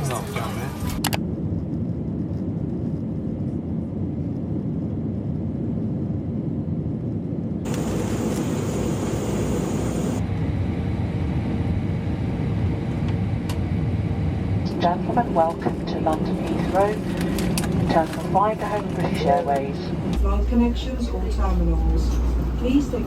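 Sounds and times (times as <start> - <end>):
airliner engine rumble: 0.0 - 23.0.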